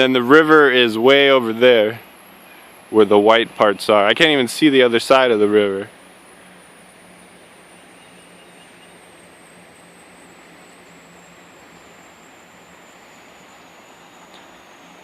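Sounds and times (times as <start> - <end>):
outdoor ambient hiss: 0.0 - 15.0
thin high tone sliding down: 0.0 - 15.0.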